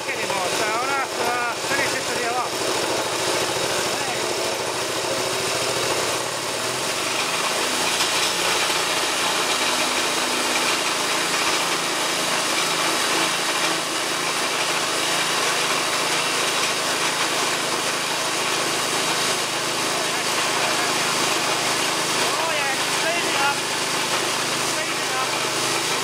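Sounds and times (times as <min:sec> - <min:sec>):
small petrol engine running: 0:00.0 - 0:26.0.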